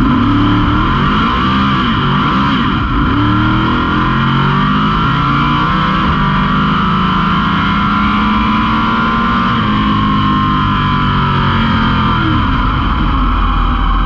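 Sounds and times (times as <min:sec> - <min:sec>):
race car engine running loud: 0:00.0 - 0:14.0.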